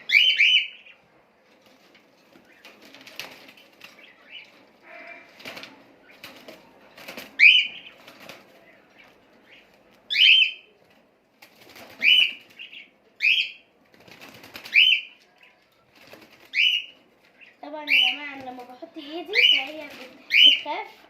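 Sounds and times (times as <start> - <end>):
wing flutters and cage rustling: 0.1 - 21.0.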